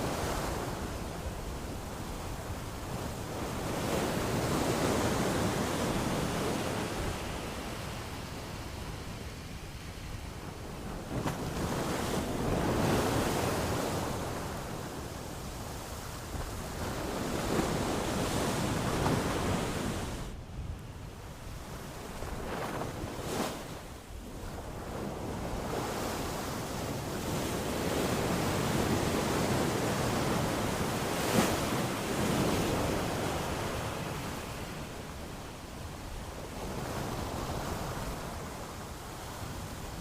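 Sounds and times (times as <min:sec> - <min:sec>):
ocean surf washing: 0:00.0 - 0:40.0.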